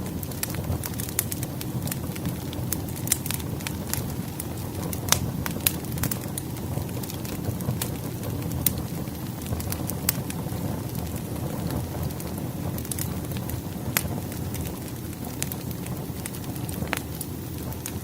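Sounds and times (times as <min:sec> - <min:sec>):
logs popping and crackling: 0:00.0 - 0:18.0
wood fire rumbling: 0:00.0 - 0:18.0.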